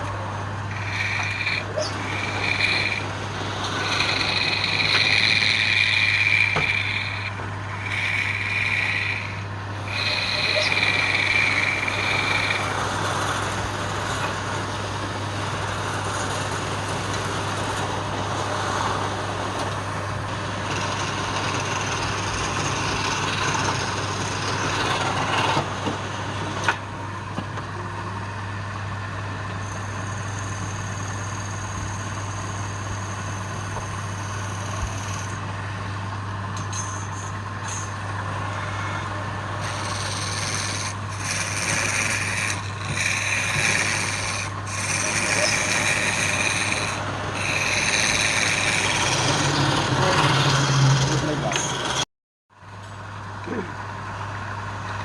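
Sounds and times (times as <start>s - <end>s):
wood lathe motor hum: 0.0s - 26.9s, 28.2s - 36.6s, 37.3s - 52.0s.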